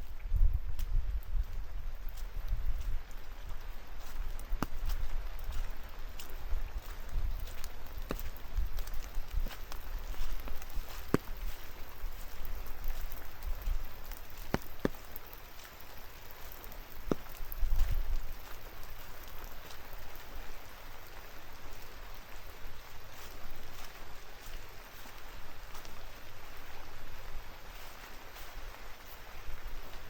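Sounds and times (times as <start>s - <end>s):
sharp raindrops striking: 0.0s - 30.0s
steady rain: 0.0s - 30.0s.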